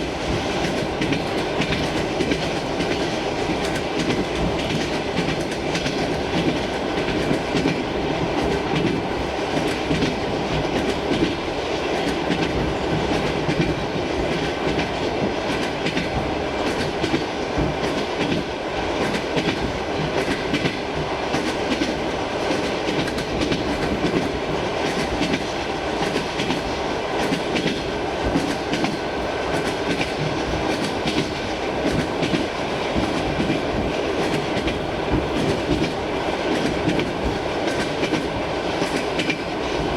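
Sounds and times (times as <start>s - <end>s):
train carriage rumble: 0.0s - 39.9s.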